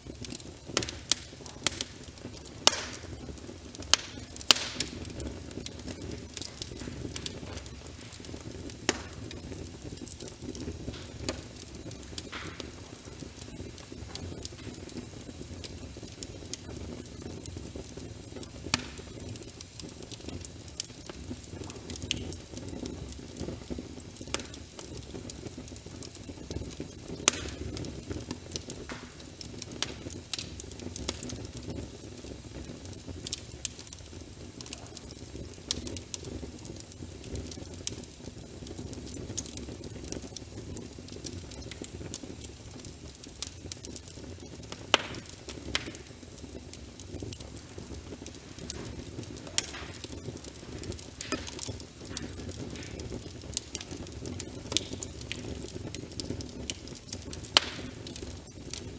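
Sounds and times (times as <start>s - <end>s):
rain pattering: 0.0s - 58.9s
wood fire crackling and popping: 0.0s - 58.9s.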